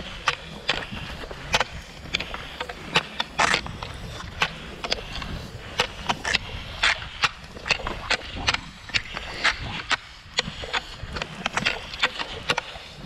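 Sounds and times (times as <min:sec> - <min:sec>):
ski poles clicking and scraping: 0:00.0 - 0:13.0
skis swishing over snow: 0:00.0 - 0:13.0.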